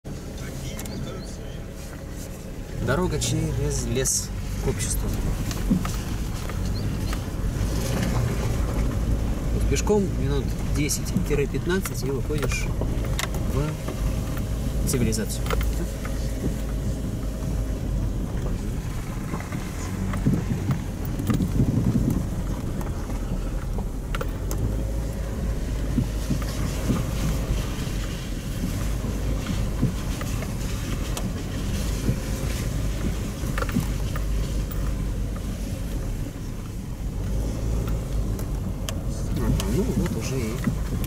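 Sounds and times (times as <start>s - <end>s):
low rumble of engine and tyres: 0.0s - 41.0s
car clicks and knocks over bumps: 1.9s - 41.0s.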